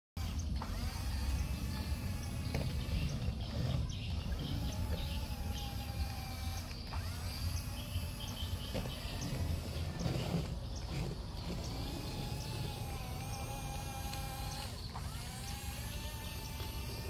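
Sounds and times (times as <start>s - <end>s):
birds chirping: 0.2s - 17.0s
electric motor whining: 0.2s - 17.0s.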